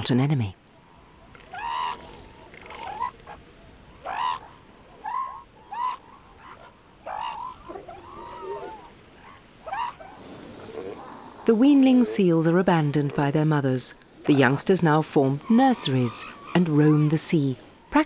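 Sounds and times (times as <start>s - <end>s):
elephant seal pup calling: 0.7s - 18.0s.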